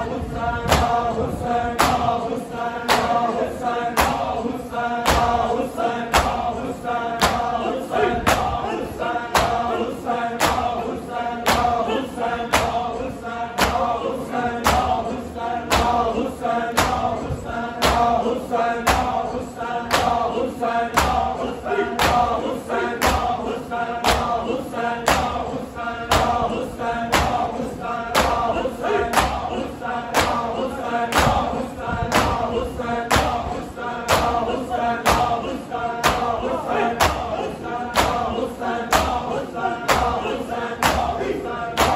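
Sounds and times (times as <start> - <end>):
men chanting together: 0.0 - 41.9
rhythmic chest-beating: 0.0 - 41.9.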